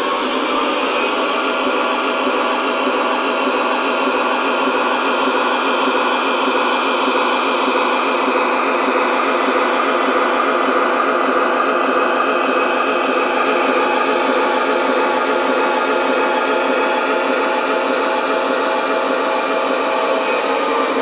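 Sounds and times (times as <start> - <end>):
diesel engine sound through small speaker: 0.0 - 21.0.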